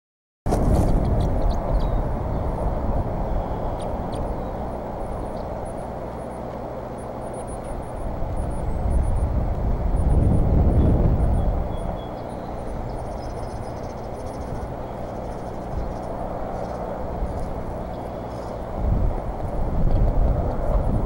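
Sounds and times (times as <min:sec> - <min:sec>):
low rumbling noise: 0:00.5 - 0:21.0.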